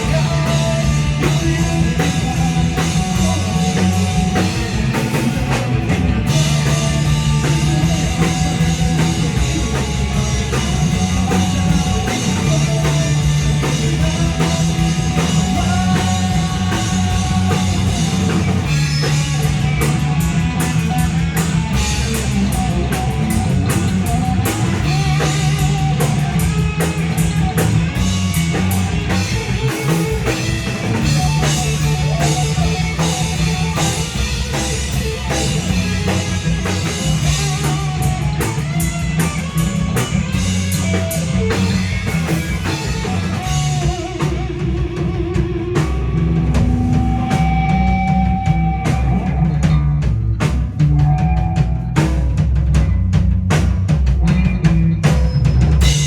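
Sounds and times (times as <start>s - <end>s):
drum kit with busy cymbals: 0.0s - 56.0s
live rock band playing: 0.0s - 56.0s.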